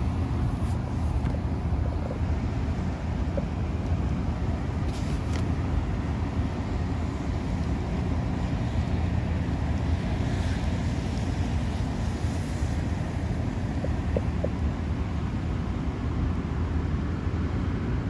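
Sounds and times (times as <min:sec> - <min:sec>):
heavy rain on asphalt: 0:00.0 - 0:18.0.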